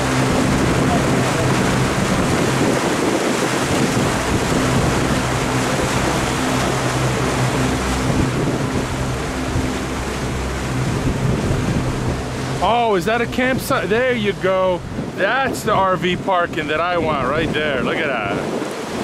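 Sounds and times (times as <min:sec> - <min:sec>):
boat engine humming: 0:00.0 - 0:19.0
water rushing along hull: 0:00.0 - 0:19.0
wind buffeting microphone: 0:00.0 - 0:19.0.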